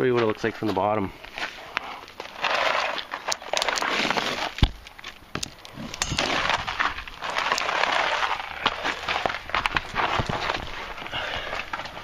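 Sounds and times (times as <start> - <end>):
footsteps crunching on gravel: 0.0 - 12.0.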